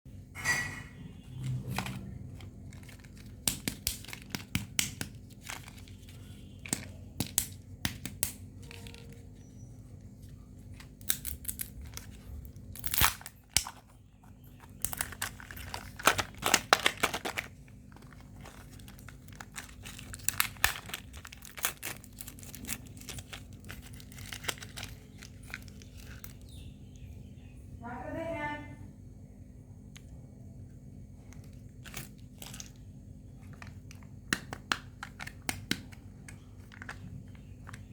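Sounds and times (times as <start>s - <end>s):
candy wrappers crinkling: 1.4s - 26.8s, 31.2s - 37.9s.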